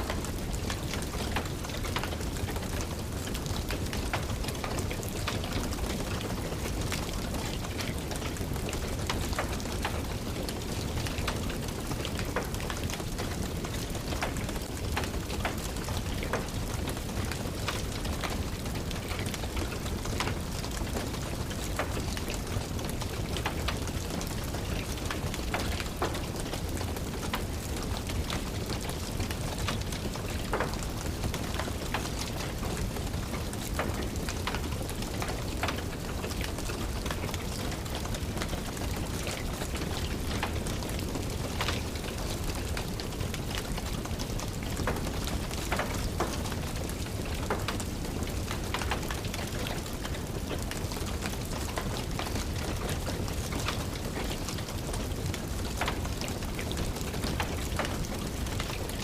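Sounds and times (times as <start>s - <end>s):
rain hiss: 0.0s - 59.0s
wood fire crackling: 0.0s - 59.0s.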